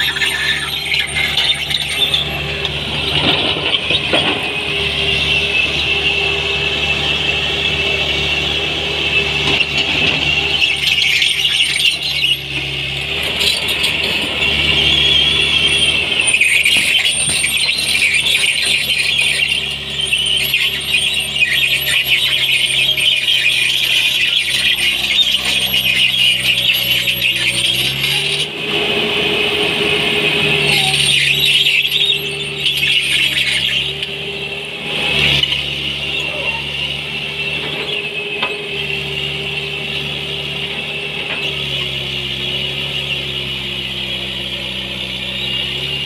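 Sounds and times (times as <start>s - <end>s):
excavator diesel engine: 0.0s - 46.0s
high-pitched track squeal: 0.0s - 46.0s.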